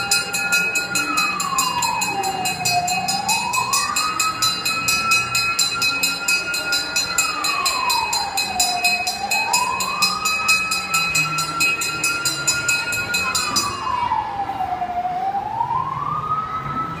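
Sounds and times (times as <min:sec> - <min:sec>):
toy fire engine siren wailing: 0:00.0 - 0:17.0.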